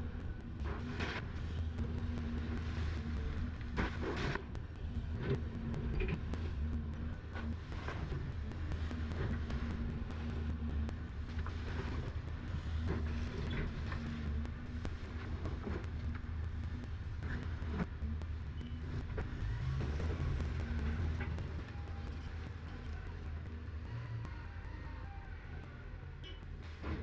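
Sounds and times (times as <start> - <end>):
excavator engine running: 0.0 - 27.0.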